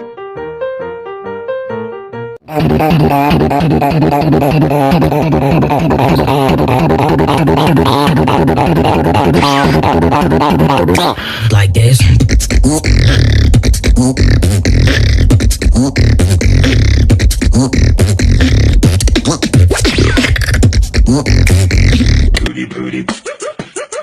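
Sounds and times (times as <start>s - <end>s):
vocal music with heavy bass: 2.4s - 24.0s.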